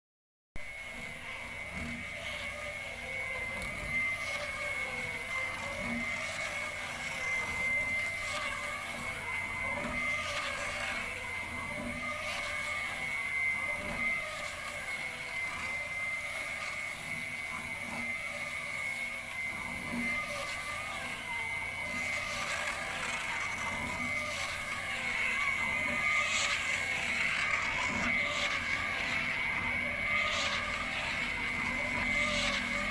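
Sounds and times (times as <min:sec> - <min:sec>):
grinding machine whining: 0:00.6 - 0:32.9.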